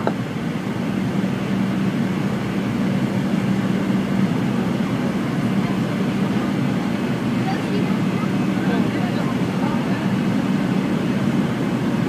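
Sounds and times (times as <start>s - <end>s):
airliner cabin air rush: 0.0s - 12.0s
jet engines droning: 0.0s - 12.0s.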